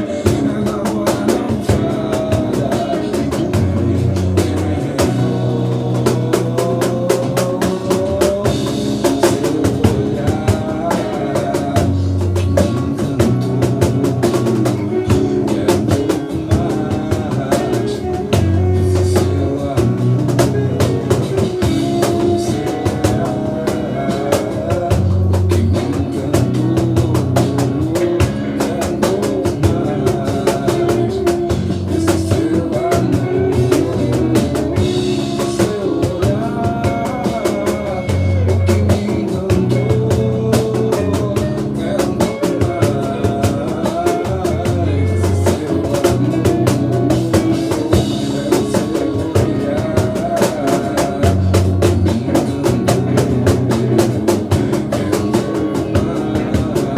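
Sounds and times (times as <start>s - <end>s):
fast samba drumming: 0.0s - 56.9s
low bass line: 0.0s - 56.9s.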